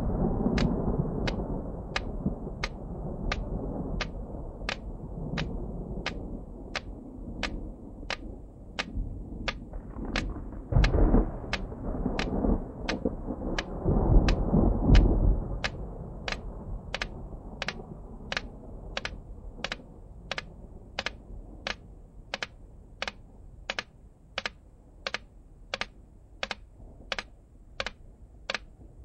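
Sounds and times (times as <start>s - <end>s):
sharp clicks: 0.5s - 6.2s, 6.8s - 28.8s.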